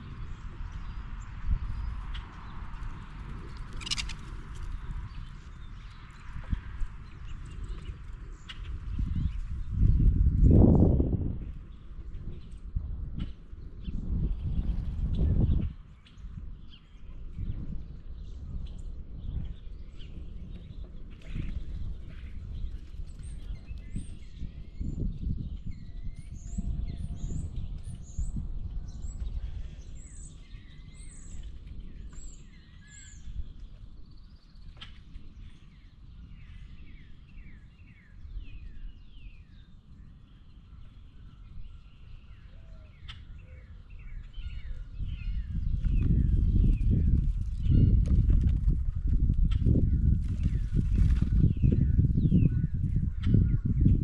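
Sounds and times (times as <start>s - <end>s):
birds chirping and calling: 0.2s - 10.6s, 18.6s - 48.8s, 49.4s - 54.0s.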